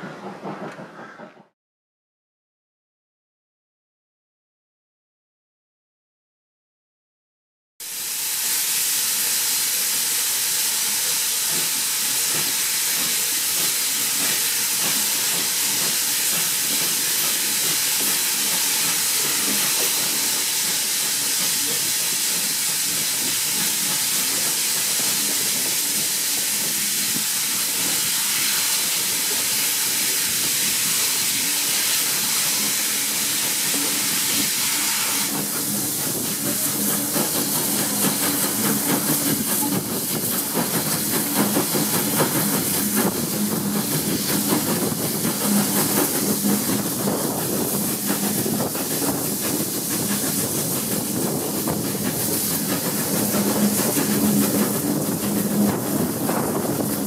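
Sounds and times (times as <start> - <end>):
loud hiss of steam: 7.8 - 57.0.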